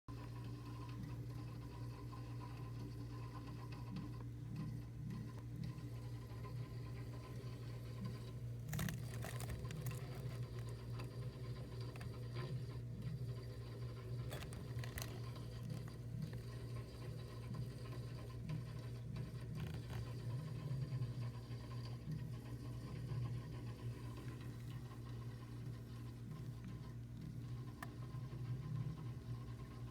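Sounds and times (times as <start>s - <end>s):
freezer compressor hum: 0.1s - 29.9s.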